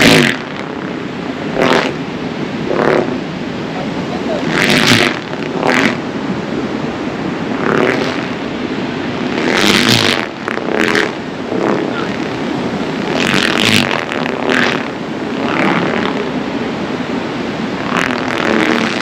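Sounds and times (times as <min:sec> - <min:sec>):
kites buzzing in wind: 0:00.0 - 0:19.0
rushing air: 0:00.0 - 0:19.0.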